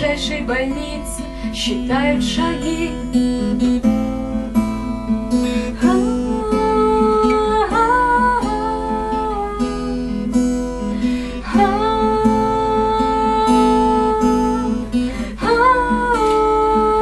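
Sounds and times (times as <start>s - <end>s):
woman singing: 0.0s - 3.7s, 5.6s - 17.0s
acoustic guitar strumming: 0.0s - 17.0s.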